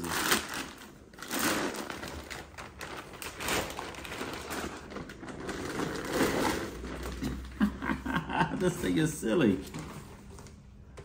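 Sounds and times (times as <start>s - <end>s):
plastic bag rustling and crinkling: 0.0s - 10.9s.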